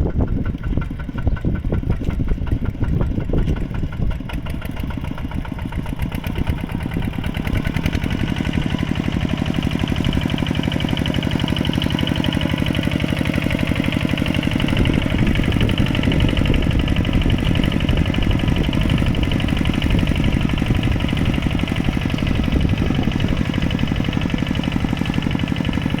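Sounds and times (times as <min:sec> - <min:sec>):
mini tractor engine running: 0:00.0 - 0:26.0.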